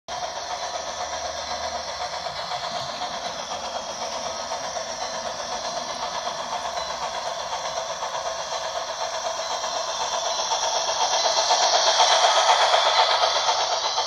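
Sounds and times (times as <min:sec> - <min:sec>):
model train running on track: 0:00.1 - 0:14.0.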